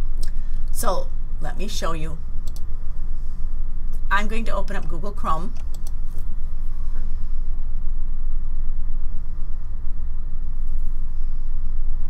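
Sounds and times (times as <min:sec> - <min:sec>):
faint steady hum: 0:00.0 - 0:12.0
low background rumble: 0:00.0 - 0:12.0.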